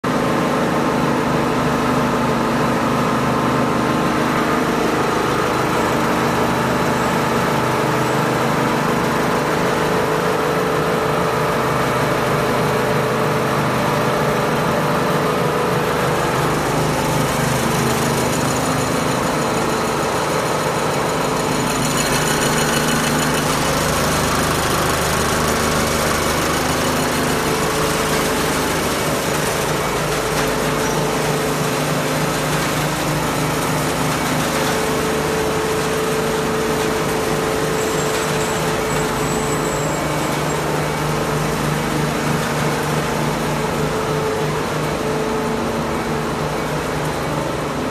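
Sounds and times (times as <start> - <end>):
machine hum with steady tones: 0.1 - 47.9.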